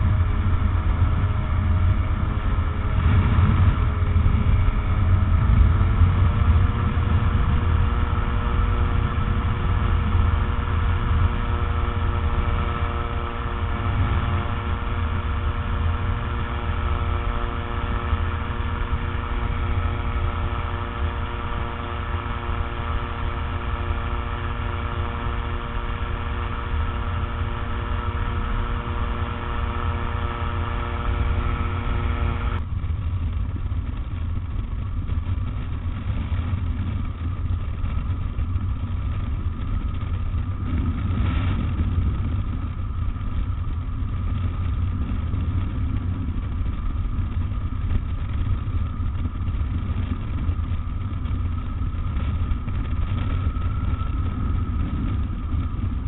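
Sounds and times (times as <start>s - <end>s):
aircraft engine running: 0.0s - 56.0s
wind rushing over microphone: 0.0s - 56.0s.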